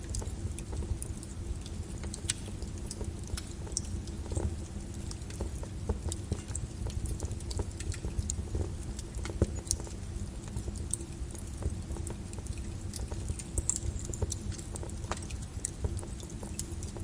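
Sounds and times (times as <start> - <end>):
lava crackling and popping: 0.0 - 17.0.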